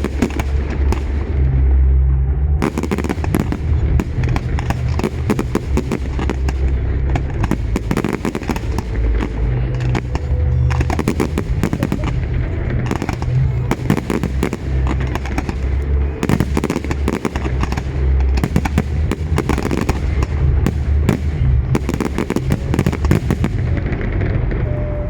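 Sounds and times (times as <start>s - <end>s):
fireworks bangs and crackles: 0.0s - 25.0s
low rumble: 0.0s - 25.0s.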